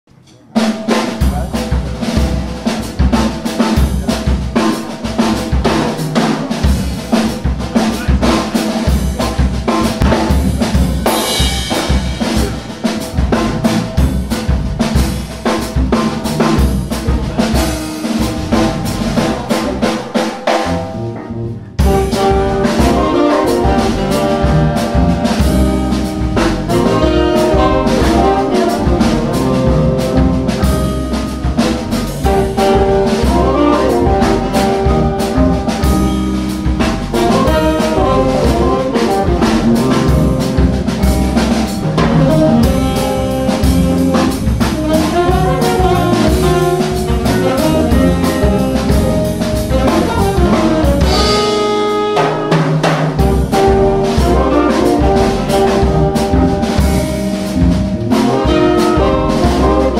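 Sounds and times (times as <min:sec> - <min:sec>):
busy drum groove: 0:00.1 - 0:59.9
jazz band playing: 0:00.4 - 0:59.9.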